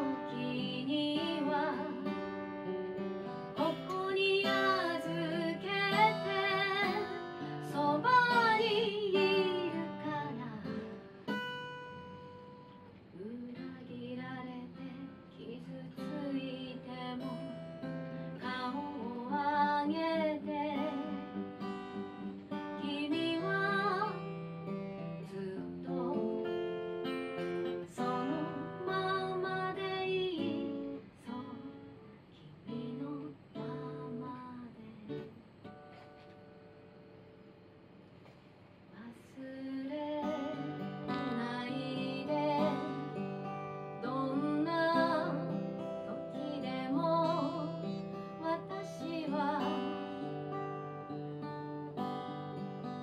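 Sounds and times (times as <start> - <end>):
woman singing a ballad: 0.0 - 11.6, 13.1 - 35.4, 38.9 - 53.0
acoustic guitar: 0.0 - 53.0.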